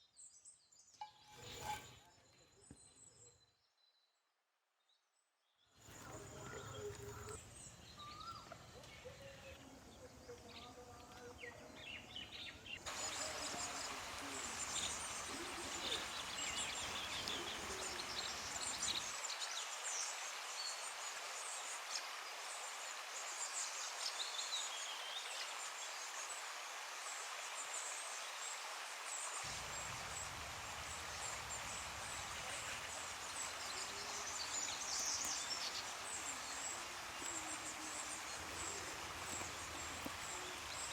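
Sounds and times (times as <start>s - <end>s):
steady hiss: 5.8s - 40.9s.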